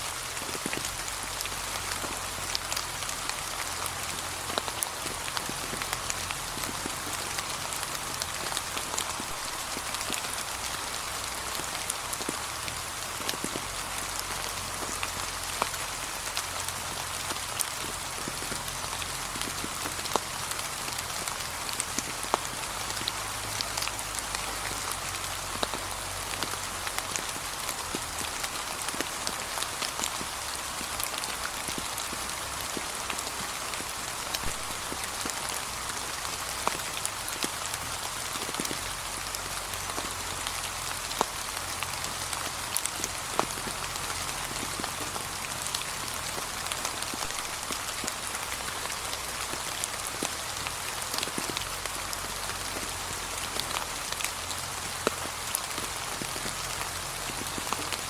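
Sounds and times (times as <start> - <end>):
rain on fallen leaves: 0.0 - 58.0.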